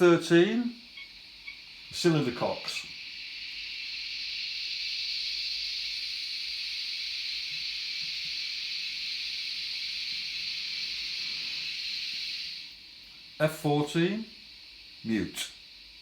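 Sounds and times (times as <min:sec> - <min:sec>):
steam venting hiss: 0:00.0 - 0:16.0.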